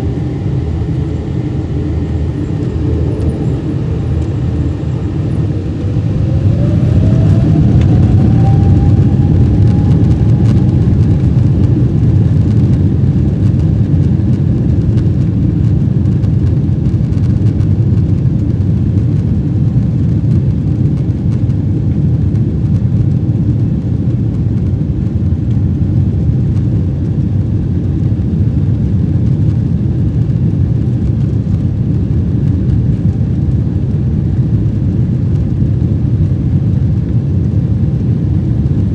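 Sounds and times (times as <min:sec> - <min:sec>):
airplane cabin roar: 0:00.0 - 0:38.9
faint whine: 0:00.0 - 0:38.9.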